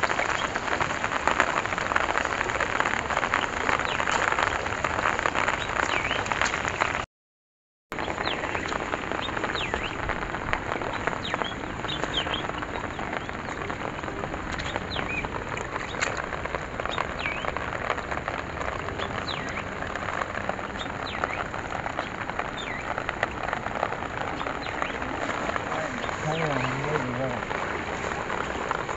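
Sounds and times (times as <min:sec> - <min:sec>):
rain pattering on water: 0:00.0 - 0:07.1, 0:07.9 - 0:28.9
small birds chirping: 0:02.8 - 0:04.4, 0:05.0 - 0:07.0, 0:08.0 - 0:28.9.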